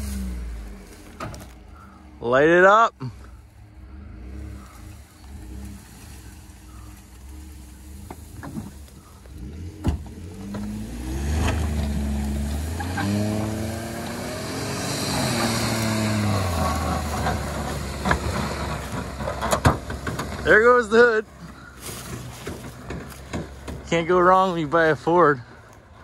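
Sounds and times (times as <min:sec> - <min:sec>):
truck engine revving hard: 0:00.0 - 0:00.9, 0:03.8 - 0:25.4
tires spinning on dirt: 0:00.0 - 0:26.0.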